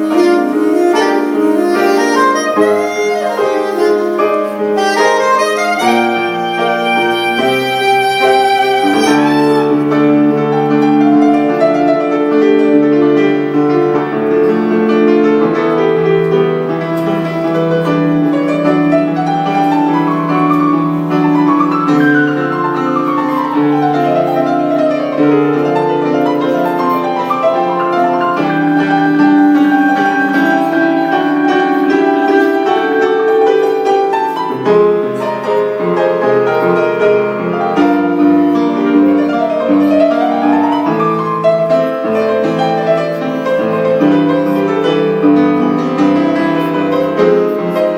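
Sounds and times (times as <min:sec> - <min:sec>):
piano music with quick runs: 0:00.0 - 0:47.9.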